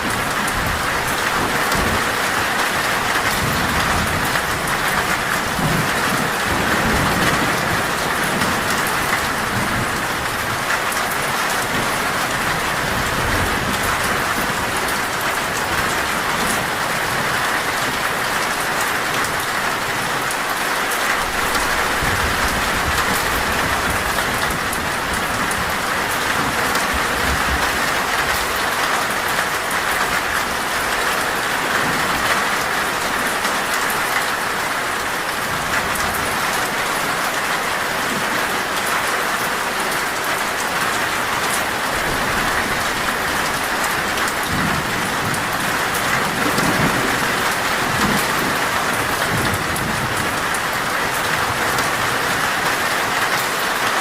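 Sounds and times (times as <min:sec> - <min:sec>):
rain drumming on metal roof: 0:00.0 - 0:54.0.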